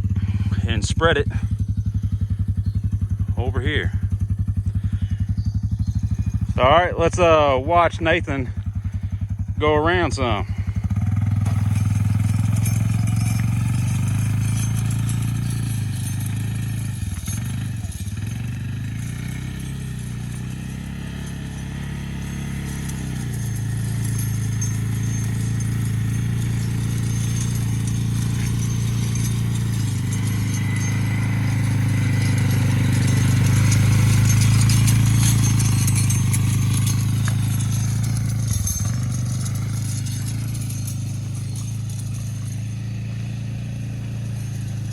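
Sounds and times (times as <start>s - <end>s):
atv engine running: 0.0s - 44.9s.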